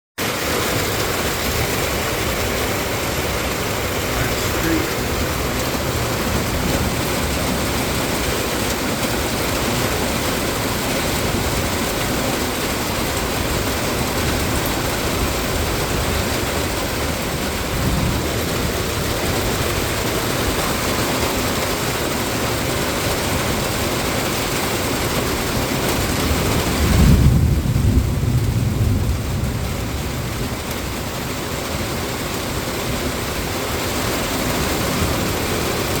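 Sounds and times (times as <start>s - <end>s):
heavy rain and floodwater rushing: 0.2s - 36.0s.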